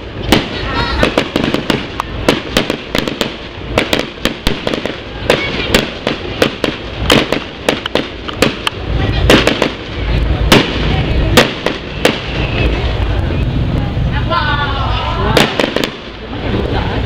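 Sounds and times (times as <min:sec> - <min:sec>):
fireworks bangs and crackling: 0:00.0 - 0:14.2, 0:15.0 - 0:17.0.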